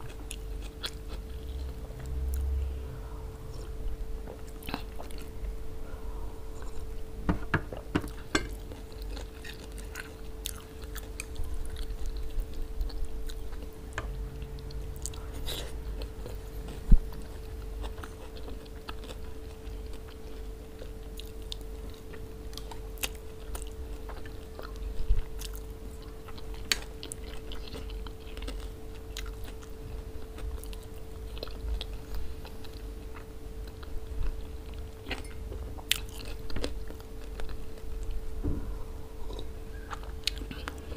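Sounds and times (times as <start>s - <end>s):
person chewing food: 0.0s - 2.8s, 3.5s - 5.6s, 6.4s - 38.3s, 39.1s - 40.9s
faint steady hum: 0.0s - 40.9s.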